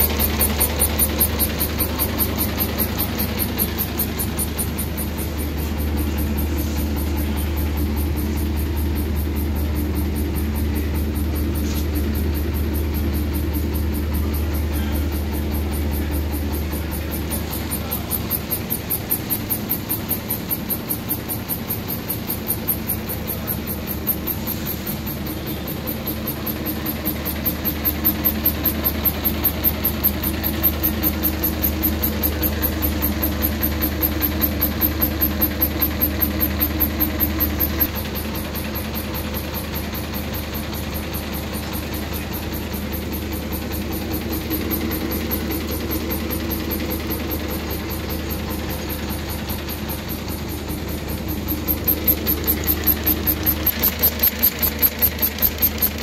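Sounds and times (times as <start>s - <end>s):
machine humming: 0.0s - 56.0s
machine knocking: 0.0s - 56.0s.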